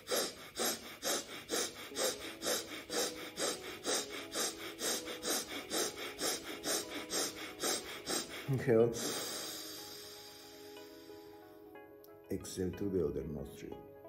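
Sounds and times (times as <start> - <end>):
man breathing rapidly through nostril: 0.0 - 11.5.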